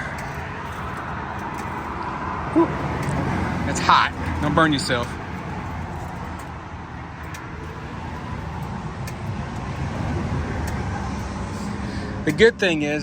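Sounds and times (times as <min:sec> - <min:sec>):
highway traffic rumbling: 0:00.0 - 0:13.0.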